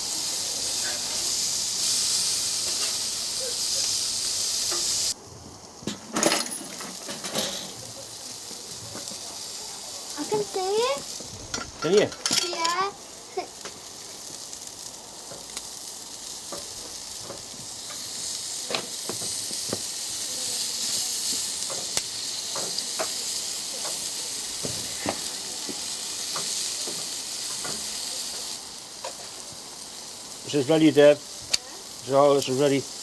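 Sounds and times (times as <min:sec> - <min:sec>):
meat sizzling on grill: 0:00.0 - 0:33.0.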